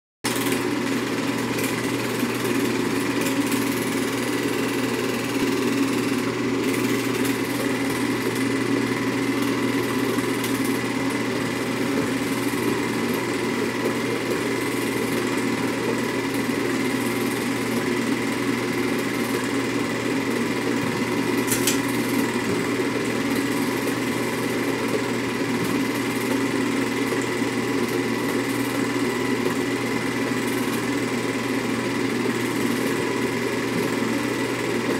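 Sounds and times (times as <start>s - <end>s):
film projector whirring: 0.3s - 34.9s.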